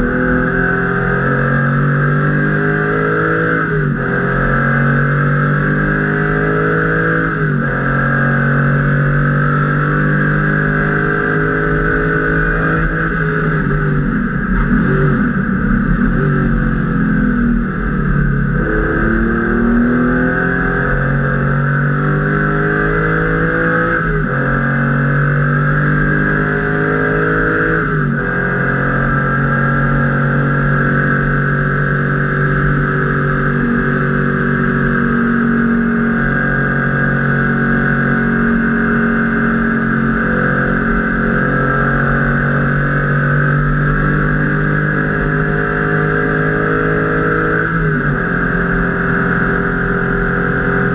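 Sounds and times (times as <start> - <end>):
car engine accelerating: 0.0 - 50.9
wind and road noise: 0.0 - 50.9.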